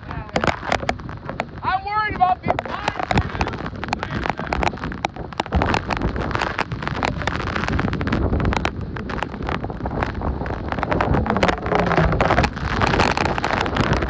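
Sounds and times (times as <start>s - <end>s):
sharp crackles and knocks: 0.0s - 14.0s
wind buffeting microphone: 0.0s - 14.0s.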